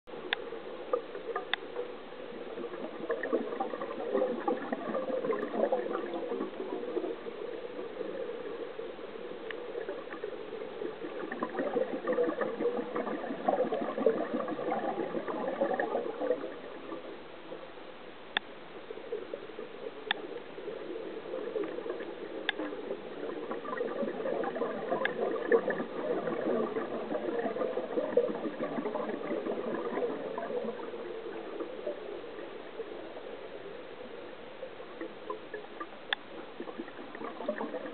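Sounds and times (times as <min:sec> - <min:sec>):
underwater bubbling of exhaled air: 0:00.1 - 0:17.8, 0:18.7 - 0:37.9.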